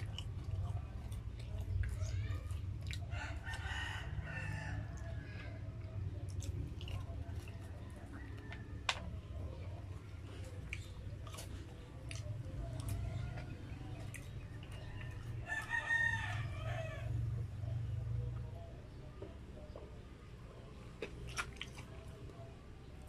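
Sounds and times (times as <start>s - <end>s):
chewing and lip smacks: 0.0s - 16.7s, 20.5s - 22.6s.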